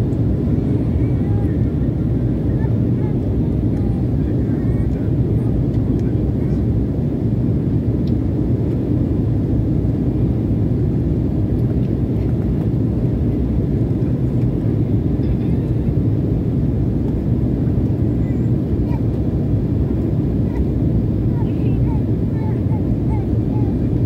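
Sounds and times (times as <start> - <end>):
jet engine rumble in cabin: 0.0 - 24.0.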